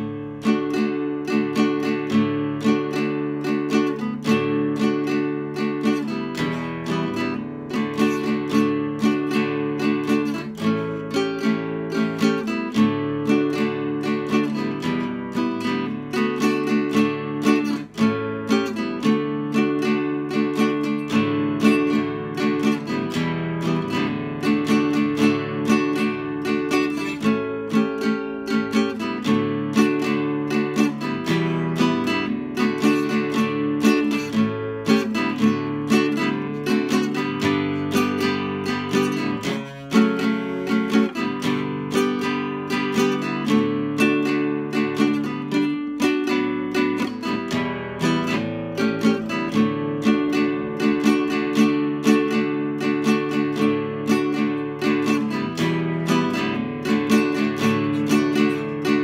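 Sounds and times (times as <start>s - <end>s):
classical guitar strumming: 0.0s - 59.0s.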